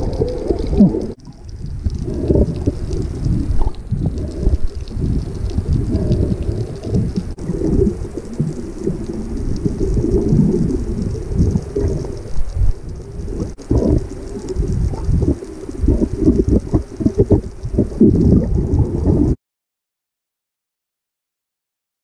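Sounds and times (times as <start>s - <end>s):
underwater rumble and gurgling: 0.0s - 19.4s.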